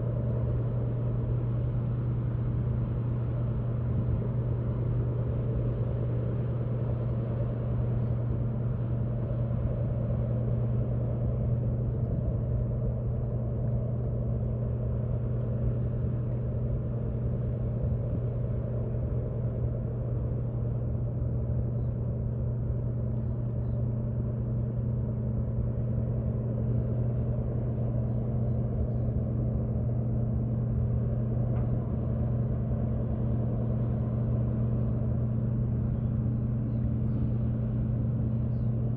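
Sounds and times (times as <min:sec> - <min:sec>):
ship engines droning: 0:00.0 - 0:38.9.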